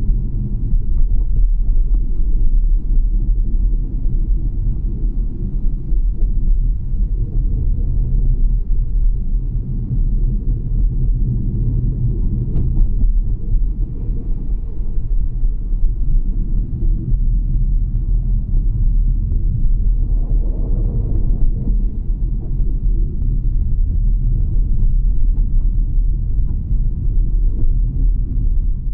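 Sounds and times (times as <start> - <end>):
loud low rumble: 0.0 - 28.9.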